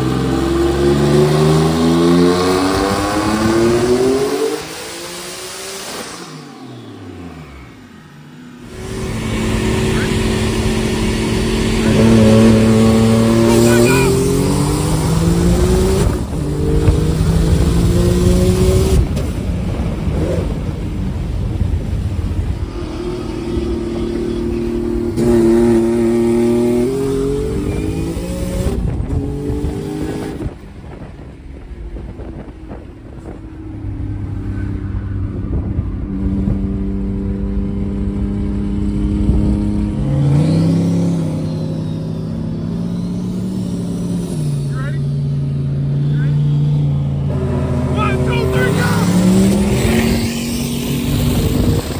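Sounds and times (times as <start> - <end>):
car engine accelerating through gears: 0.0 - 51.9.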